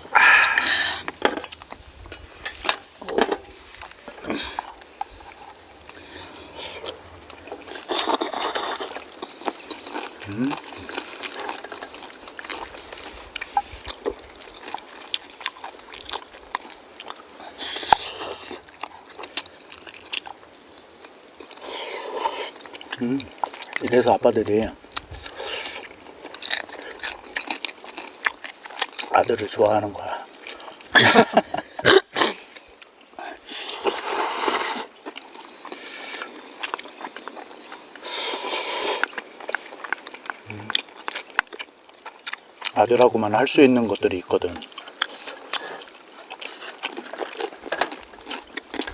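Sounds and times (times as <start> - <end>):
person chewing noodles: 0.0 - 24.0, 24.7 - 29.4, 30.1 - 42.8, 43.9 - 48.9.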